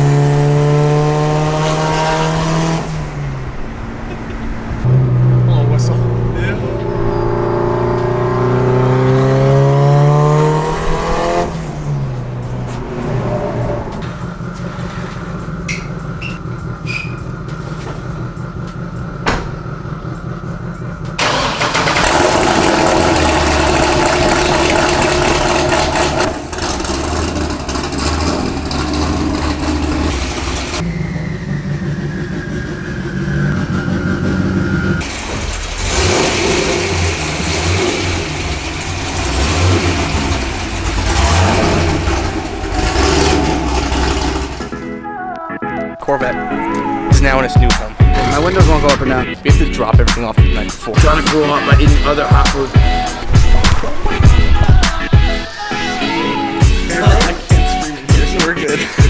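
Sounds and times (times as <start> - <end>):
car engine revving: 0.0 - 45.0, 46.0 - 59.0.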